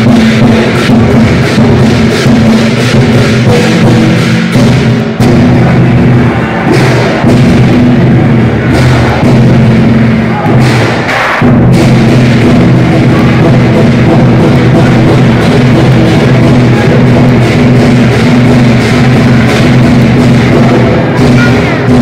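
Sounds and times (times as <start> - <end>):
cymbals clashing: 0.0 - 22.0
large drum beating: 0.0 - 22.0.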